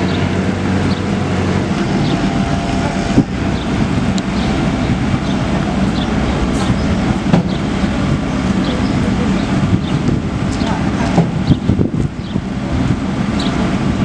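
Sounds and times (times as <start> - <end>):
large engine running: 0.0 - 14.0.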